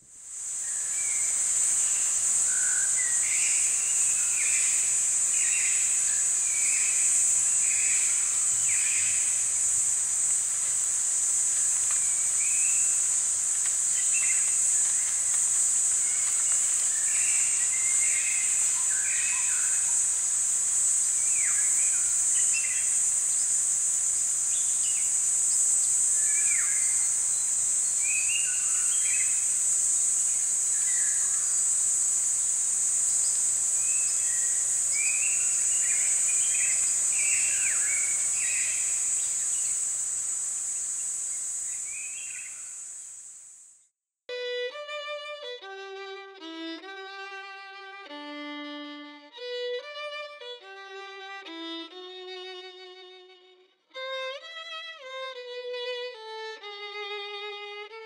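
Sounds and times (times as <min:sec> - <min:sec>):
high-pitched insect drone: 0:00.3 - 0:53.1.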